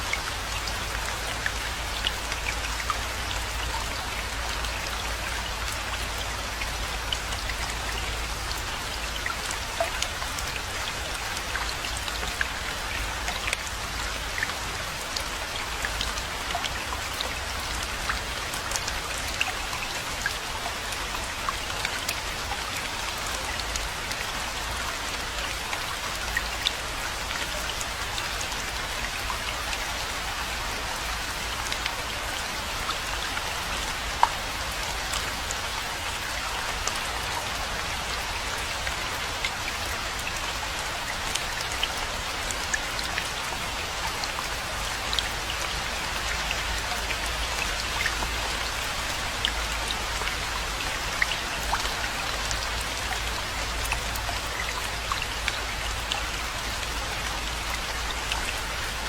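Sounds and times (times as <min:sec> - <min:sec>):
steady rainfall patter: 0:00.0 - 0:59.0.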